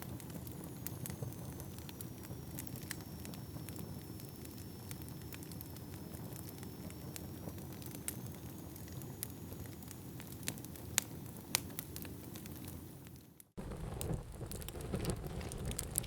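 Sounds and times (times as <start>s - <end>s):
fire burning with crackles: 0.0s - 16.0s
sharp crackles and pops: 0.0s - 16.0s.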